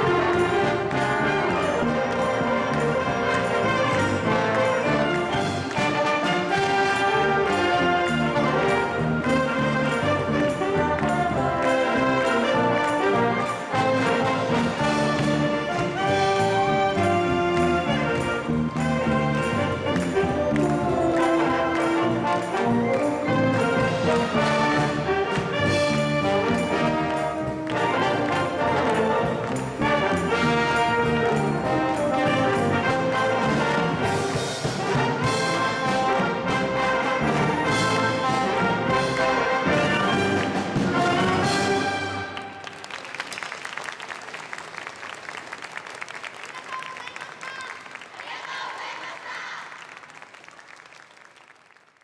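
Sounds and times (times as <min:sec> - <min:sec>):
wind band playing upbeat music: 0:00.0 - 0:43.8.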